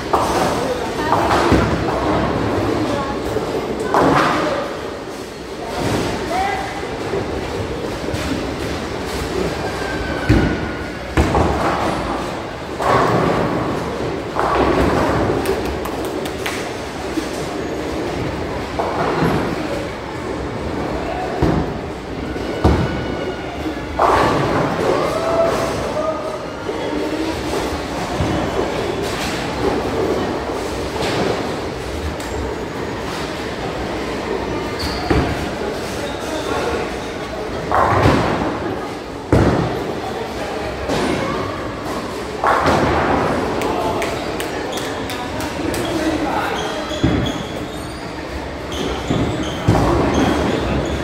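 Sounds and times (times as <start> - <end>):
bowling balls thudding and rolling: 0.0 - 23.0, 23.6 - 25.9, 27.1 - 46.2, 46.9 - 51.0.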